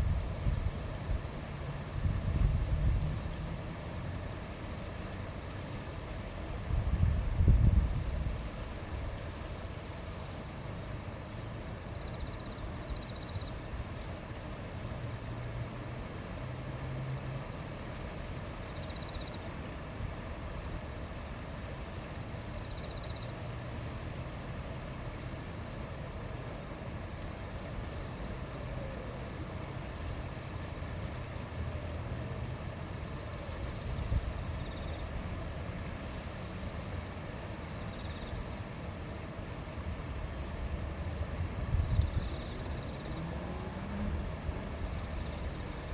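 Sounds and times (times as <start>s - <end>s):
river stream rushing: 0.0s - 45.9s.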